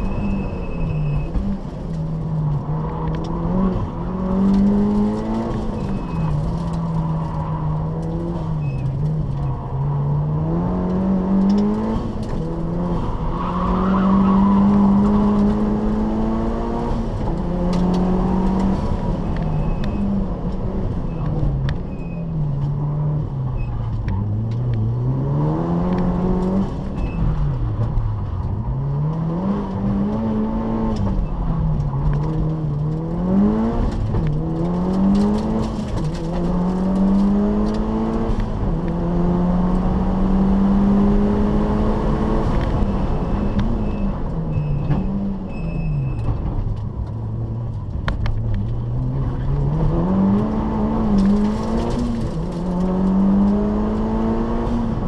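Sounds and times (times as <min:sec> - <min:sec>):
car engine revving: 0:00.0 - 0:21.8, 0:22.4 - 0:45.6, 0:46.4 - 0:55.0.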